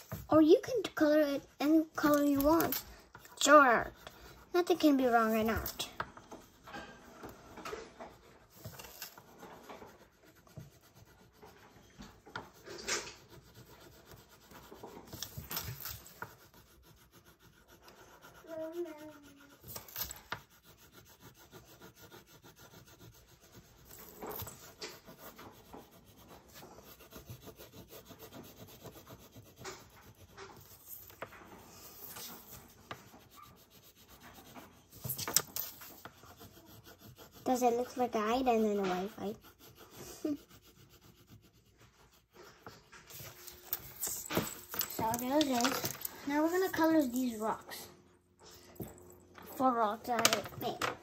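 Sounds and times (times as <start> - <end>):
crayon scratching on paper: 0.0 - 47.9, 48.9 - 51.0.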